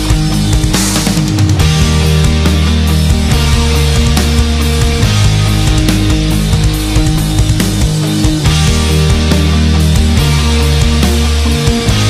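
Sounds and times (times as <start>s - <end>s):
heavy metal song: 0.0s - 12.0s.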